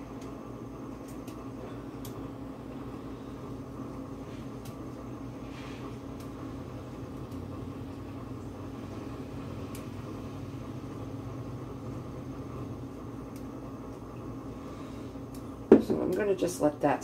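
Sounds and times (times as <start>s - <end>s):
appliance motor humming: 0.0s - 16.3s.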